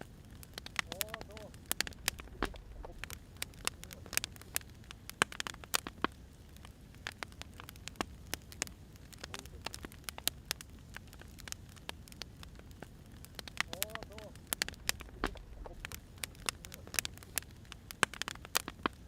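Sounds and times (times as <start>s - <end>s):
low steady rumble: 0.0s - 9.2s, 9.9s - 18.0s
firewood crackling and popping: 0.0s - 19.0s.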